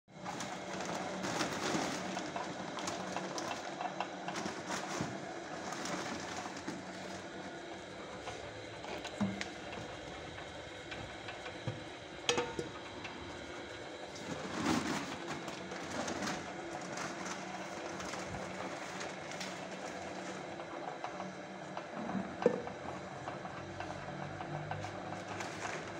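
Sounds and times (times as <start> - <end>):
dough mixer motor humming: 0.1 - 25.9.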